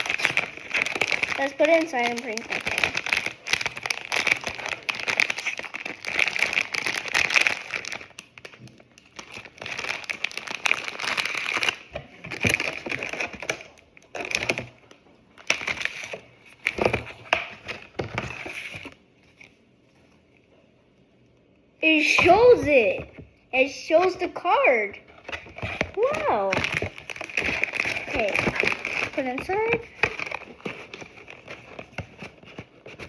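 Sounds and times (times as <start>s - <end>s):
packaging crumpling: 0.0s - 19.6s, 25.1s - 33.0s.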